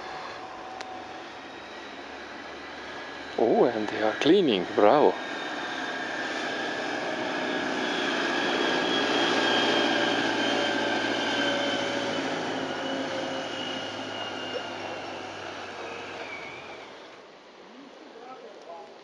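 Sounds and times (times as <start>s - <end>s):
snow-clearing vehicle engine passing: 0.0s - 17.2s
whining tones: 0.0s - 17.3s.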